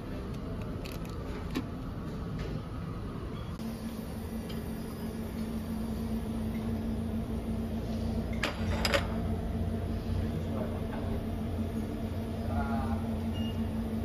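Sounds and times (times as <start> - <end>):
low hum of cooling machinery: 0.0 - 14.0.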